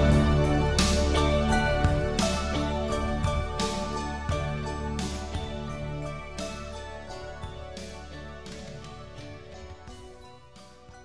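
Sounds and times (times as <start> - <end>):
struck percussive accent: 0.0 - 9.3.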